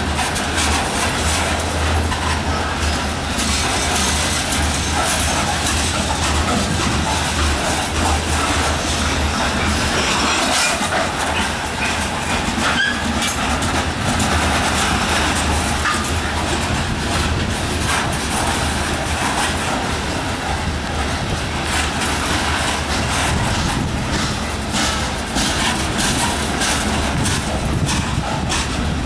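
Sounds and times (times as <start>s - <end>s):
freight train wheels rumbling: 0.0s - 29.0s
train wheel clicks: 0.0s - 29.0s.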